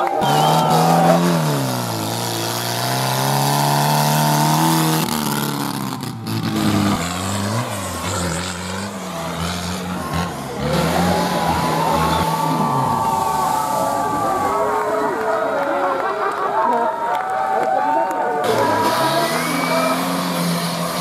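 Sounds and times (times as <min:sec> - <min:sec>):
small tractor engine revving: 0:00.0 - 0:16.2, 0:18.4 - 0:21.0.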